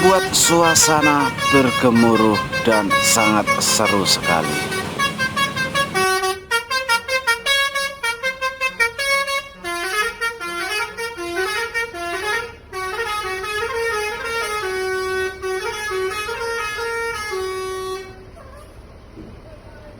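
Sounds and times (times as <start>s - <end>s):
bus air horn playing a tune: 0.0s - 18.4s.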